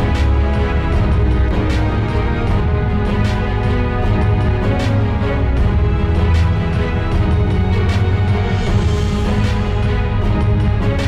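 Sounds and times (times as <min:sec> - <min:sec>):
music with sustained chords: 0:00.0 - 0:11.0.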